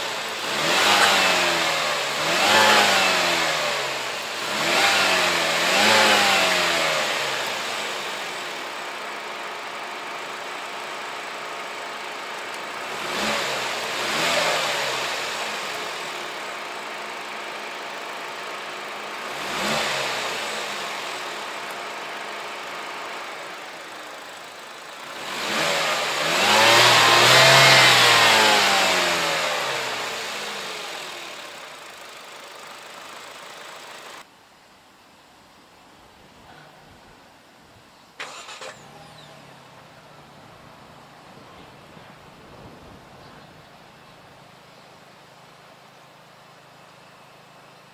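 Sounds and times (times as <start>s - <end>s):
car engine idling and revving: 0.0s - 34.3s, 38.0s - 47.9s.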